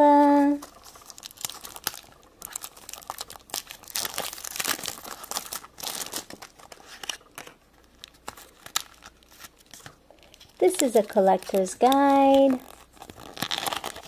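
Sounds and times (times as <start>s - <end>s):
plastic wrapper crinkling: 0.4s - 14.0s.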